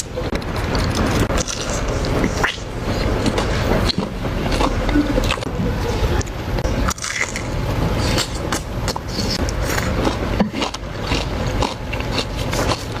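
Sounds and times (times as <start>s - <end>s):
low rumble: 0.0s - 11.6s
chewing crunchy food: 0.0s - 13.0s.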